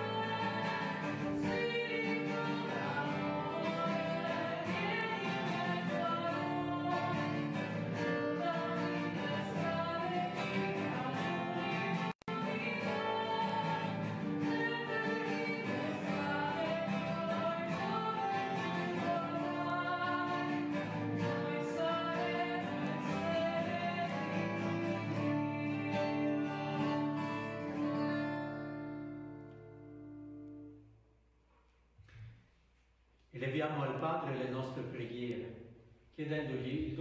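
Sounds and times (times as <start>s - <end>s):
music with guitar and singing: 0.0s - 30.8s.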